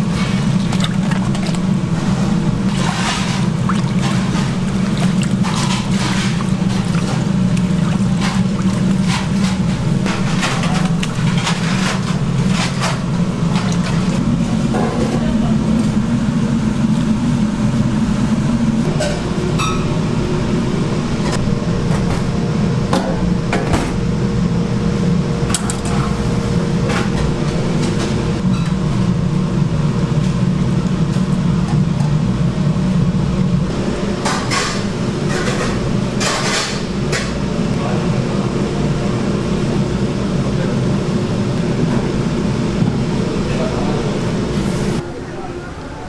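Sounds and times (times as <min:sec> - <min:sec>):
low hum of running equipment: 0:00.0 - 0:46.0.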